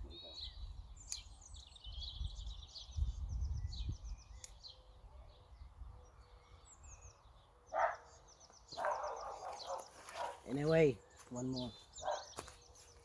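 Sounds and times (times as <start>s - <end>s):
songbirds chirping and twittering: 0.0s - 13.0s.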